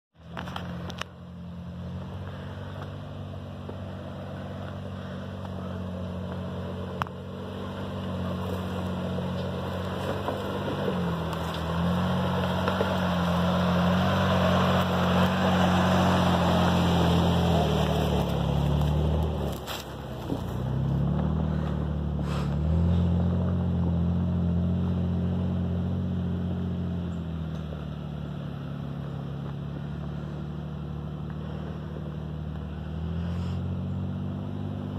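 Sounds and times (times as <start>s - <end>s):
off-road vehicle engines: 0.1s - 34.9s.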